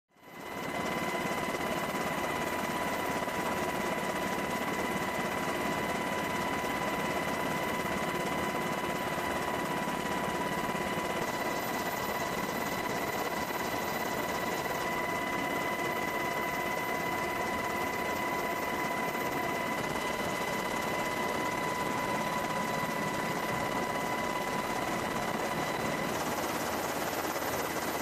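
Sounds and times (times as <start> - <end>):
constant high whine: 0.1 - 28.0
helicopter turbine and rotor noise: 0.1 - 28.0.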